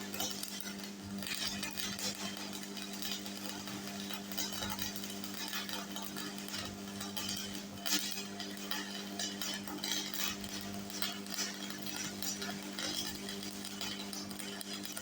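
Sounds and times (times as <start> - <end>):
welding arc crackling: 0.0 - 15.0
welding machine humming: 0.0 - 15.0.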